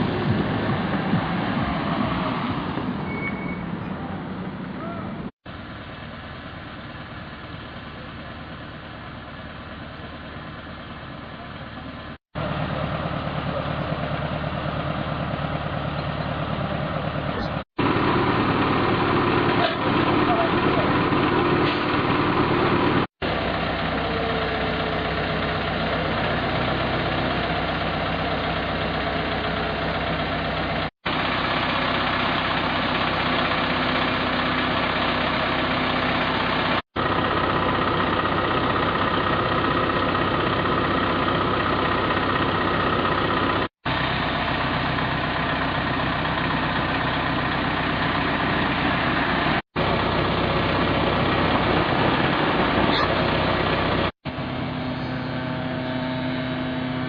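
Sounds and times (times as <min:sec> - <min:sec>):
machinery engines running: 0:00.0 - 0:57.0.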